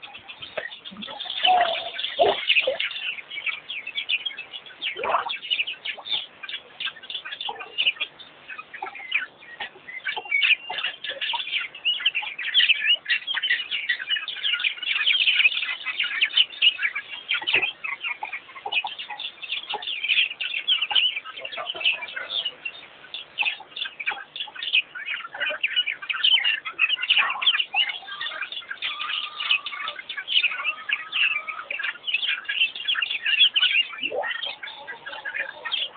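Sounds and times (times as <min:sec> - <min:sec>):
wild birds chirping: 0:00.0 - 0:35.9.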